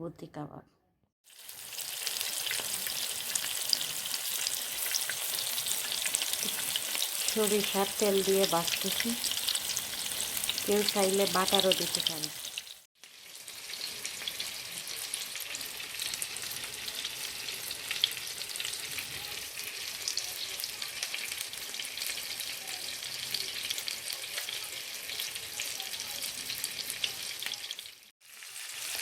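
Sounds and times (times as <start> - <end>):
kebabs sizzling in a frying pan: 1.2 - 29.0.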